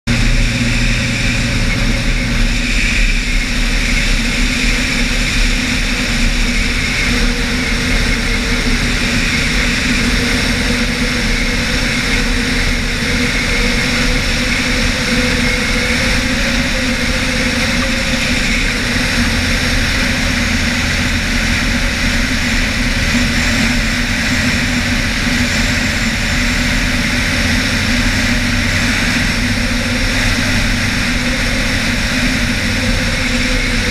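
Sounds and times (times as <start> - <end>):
airplane engine and propeller: 0.0 - 33.9
rushing air: 0.1 - 33.9.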